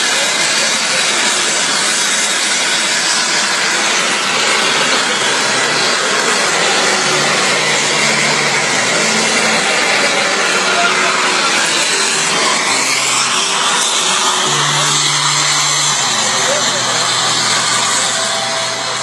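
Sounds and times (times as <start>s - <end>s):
model jet engine rush: 0.0s - 19.0s.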